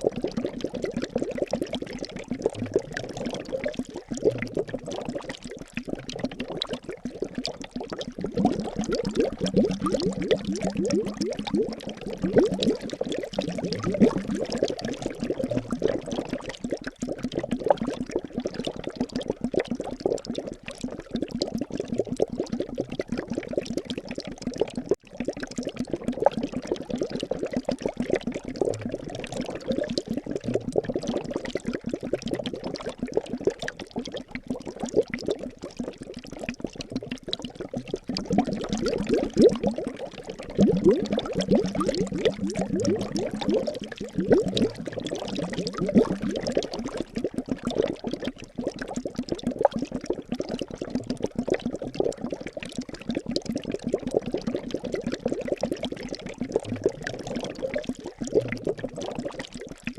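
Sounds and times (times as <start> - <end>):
liquid bubbling and gurgling: 0.0 - 59.9.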